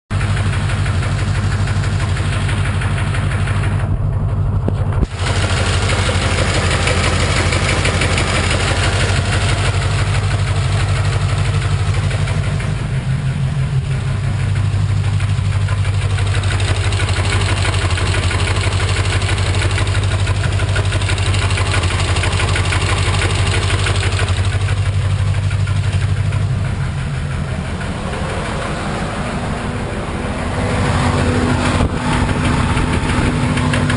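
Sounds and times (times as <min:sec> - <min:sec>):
engine running with a knock: 0:00.1 - 0:33.9.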